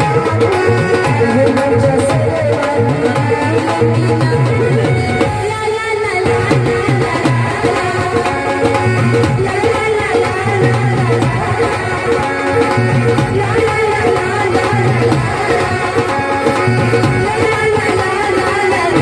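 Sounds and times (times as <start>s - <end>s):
steady drum rhythm: 0.0s - 19.0s.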